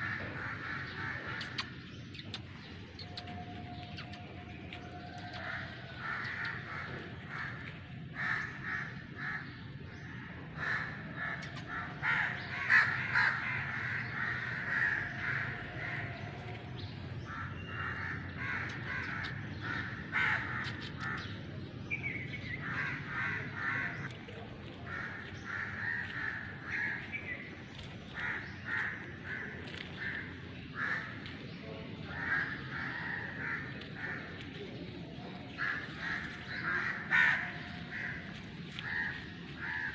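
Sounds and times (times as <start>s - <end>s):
birds calling: 0.0s - 39.9s.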